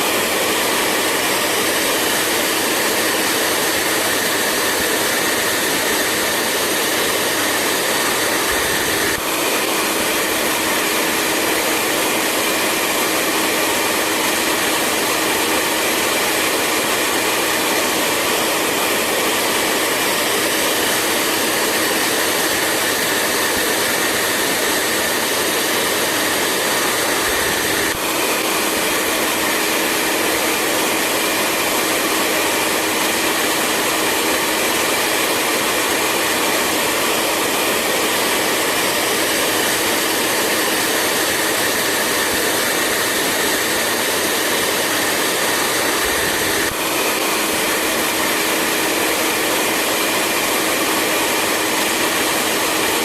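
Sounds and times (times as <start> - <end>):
hair dryer blowing: 0.0 - 53.0.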